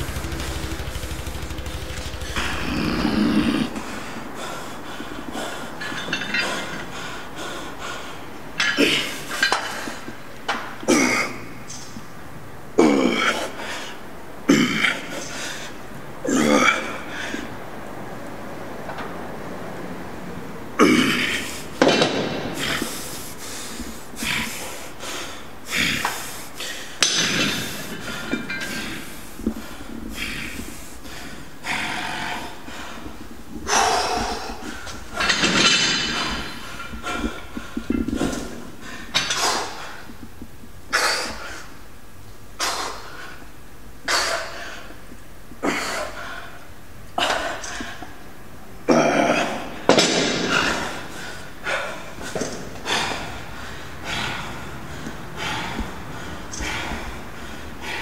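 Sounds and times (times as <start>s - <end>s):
man breathing and grunting: 0.0s - 11.6s, 12.7s - 17.6s, 20.8s - 40.2s, 42.6s - 58.0s.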